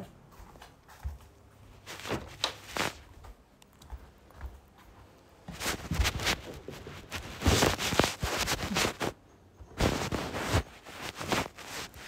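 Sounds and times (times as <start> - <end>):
rustling: 0.8 - 3.3, 4.9 - 12.0.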